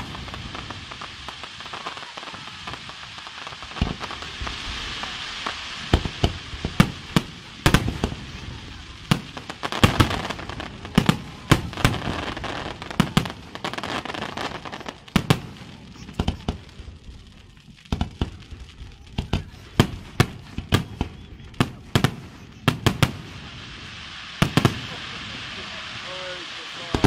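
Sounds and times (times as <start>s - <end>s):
firework bangs: 0.0s - 27.0s
firework hiss: 0.0s - 27.0s.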